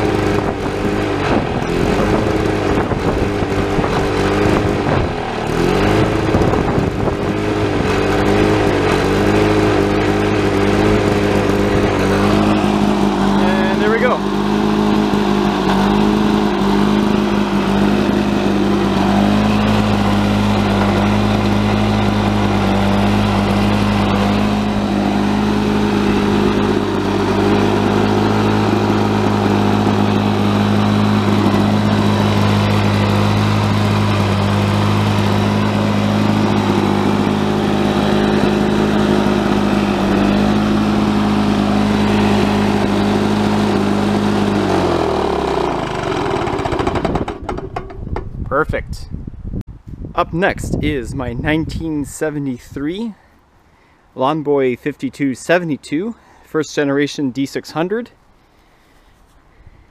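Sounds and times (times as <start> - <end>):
lawn mower engine running: 0.0 - 48.7.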